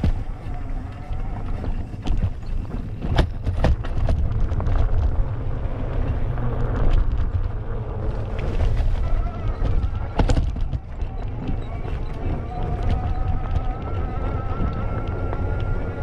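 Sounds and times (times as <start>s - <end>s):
bike knocks and rattles: 0.0s - 16.0s
wind and tyres rumbling: 0.0s - 16.0s.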